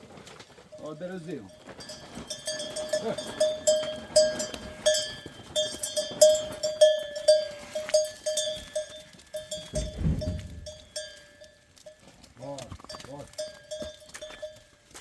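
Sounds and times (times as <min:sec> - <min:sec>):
livestock bell clanking: 0:00.6 - 0:15.0.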